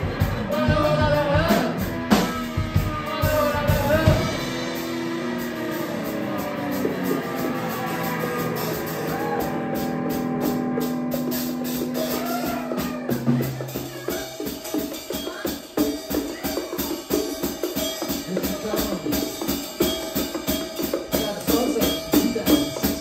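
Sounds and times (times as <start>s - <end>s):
drums and bongos beat: 0.0s - 23.0s
held chords ringing: 0.0s - 23.0s.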